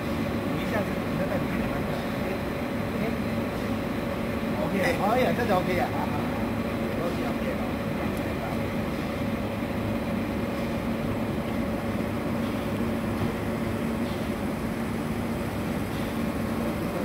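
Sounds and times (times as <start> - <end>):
aerator motor humming: 0.0 - 17.0.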